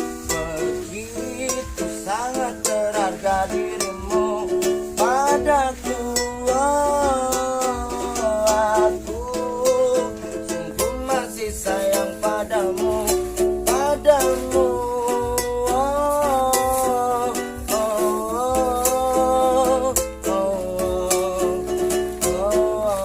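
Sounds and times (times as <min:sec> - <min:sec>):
man singing: 0:00.0 - 0:23.0
strummed ukulele: 0:00.0 - 0:23.0.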